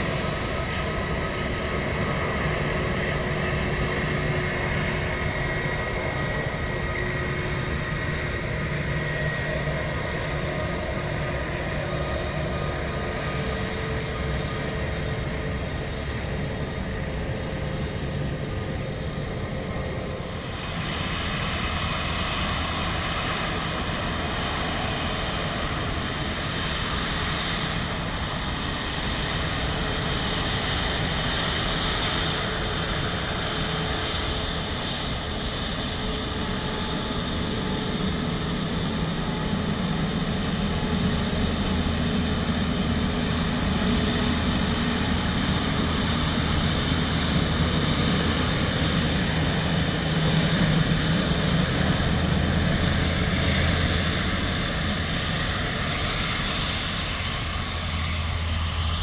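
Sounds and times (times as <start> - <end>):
distant aircraft taxiing: 0.0 - 59.0
jet engine rumble and hiss: 0.0 - 59.0.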